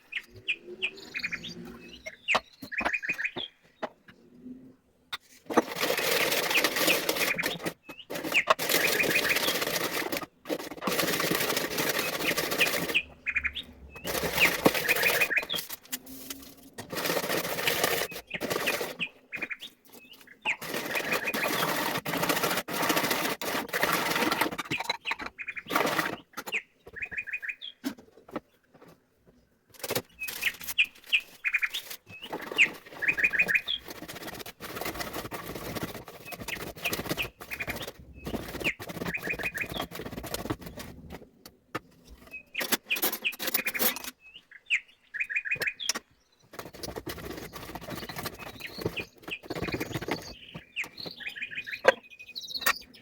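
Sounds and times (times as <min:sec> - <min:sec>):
small bird chirping: 0:00.0 - 0:03.9, 0:10.9 - 0:27.8, 0:30.0 - 0:40.9, 0:42.0 - 0:53.0
rustling and clicking: 0:05.1 - 0:44.2, 0:45.6 - 0:53.0.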